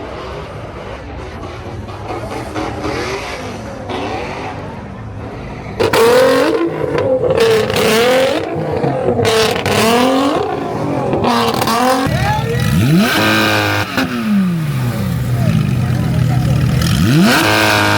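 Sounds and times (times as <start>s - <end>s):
car engine revving hard: 0.0s - 17.9s.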